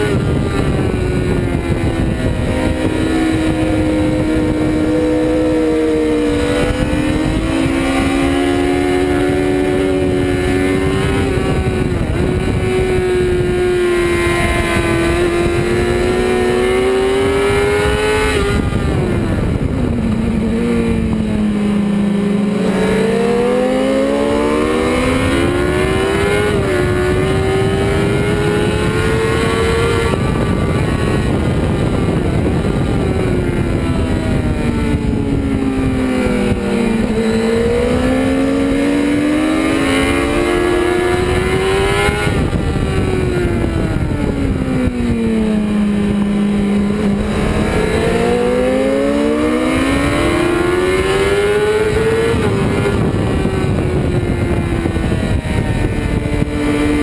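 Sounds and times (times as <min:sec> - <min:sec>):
motorcycle engine at high revs: 0:00.0 - 0:57.0
wind rushing past: 0:00.0 - 0:57.0.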